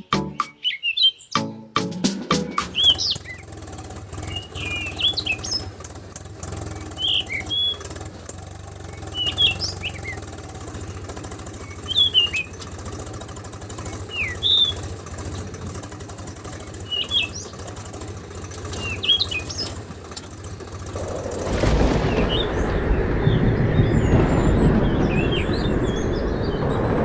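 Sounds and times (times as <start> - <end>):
birds chirping: 0.0 - 1.6, 2.3 - 27.0.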